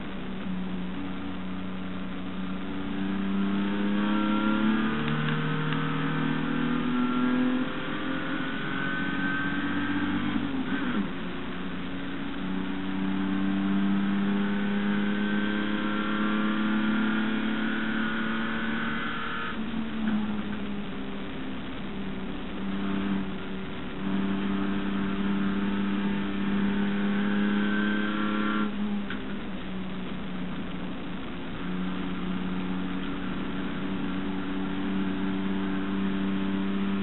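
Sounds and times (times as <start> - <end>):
race car engine at full throttle: 0.0 - 37.0.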